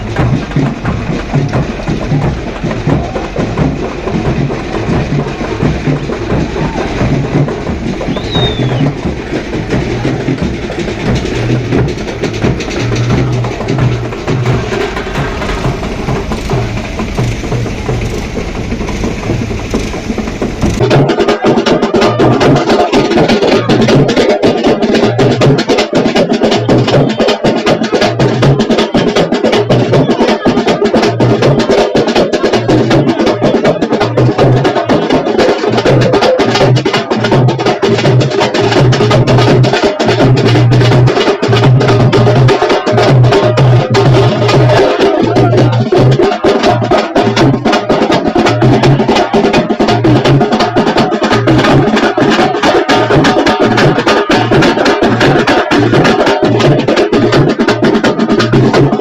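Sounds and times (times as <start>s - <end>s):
fast percussion drumming: 0.0s - 59.0s.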